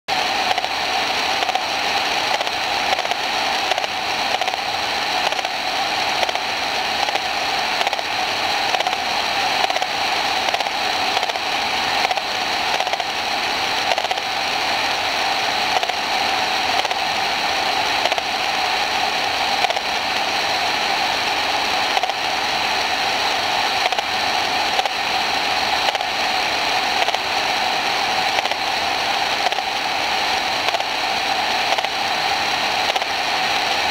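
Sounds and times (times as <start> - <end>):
static hiss with crackle: 0.1 - 33.9.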